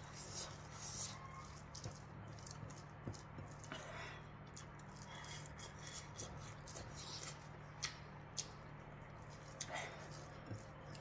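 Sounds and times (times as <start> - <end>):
fingers mixing rice in bowl: 0.0 - 11.0
steady low hum: 0.0 - 11.0
wet eating clicks and smacks: 0.8 - 3.8, 4.4 - 11.0.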